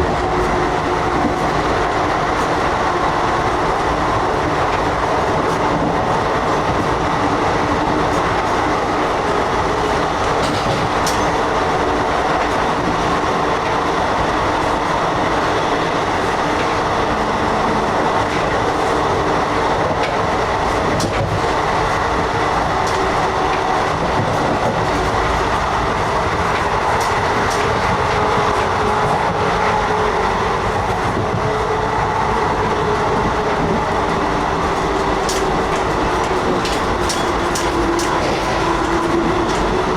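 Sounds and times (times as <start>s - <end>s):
clicks and rattles over rails: 0.0s - 39.9s
train rumbling on track: 0.0s - 39.9s.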